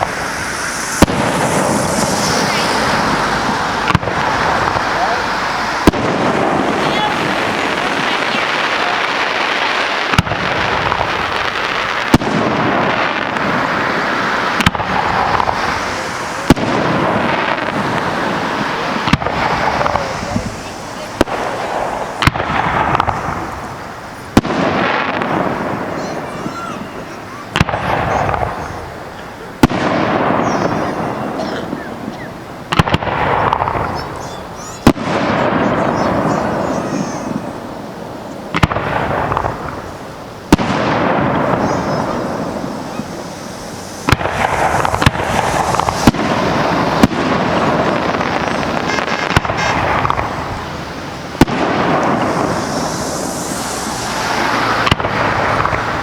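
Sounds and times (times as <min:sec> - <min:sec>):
constant noisy background: 0:00.0 - 0:56.0
firework shells bursting: 0:00.0 - 0:56.0.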